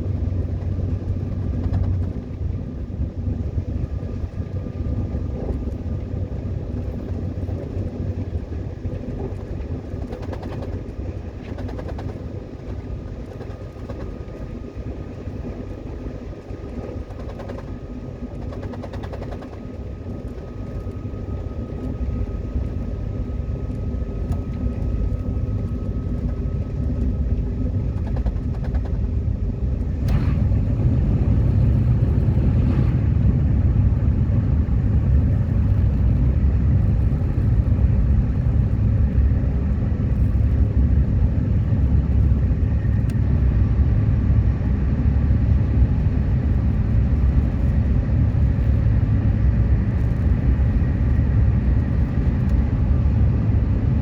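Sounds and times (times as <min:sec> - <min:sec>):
metro train rumbling on track: 0:00.0 - 0:54.0.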